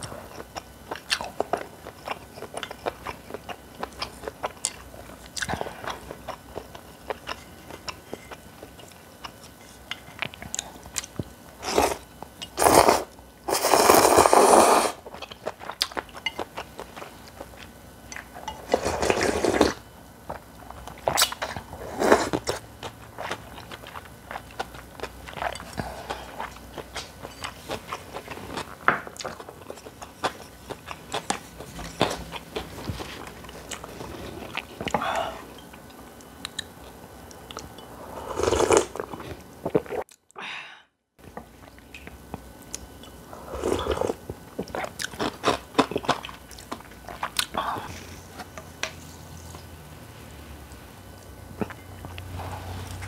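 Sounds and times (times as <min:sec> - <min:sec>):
crunching and chewing: 0:00.0 - 0:14.4, 0:15.0 - 0:40.3, 0:41.2 - 0:49.7, 0:51.2 - 0:53.0.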